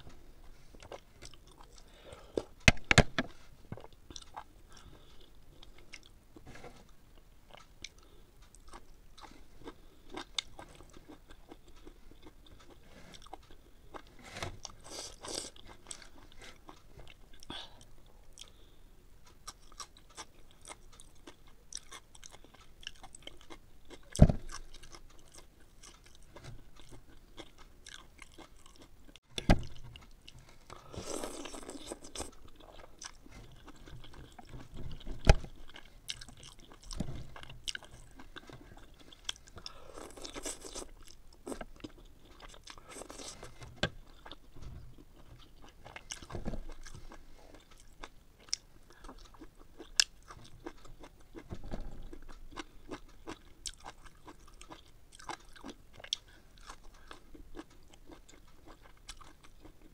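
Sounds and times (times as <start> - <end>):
person chewing and crunching food: 0.4 - 2.8, 3.6 - 6.2, 6.8 - 59.9.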